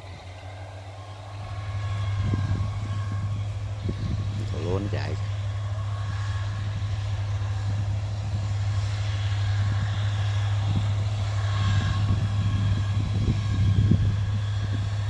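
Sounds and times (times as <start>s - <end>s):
combine harvester engine hum: 0.0s - 15.0s.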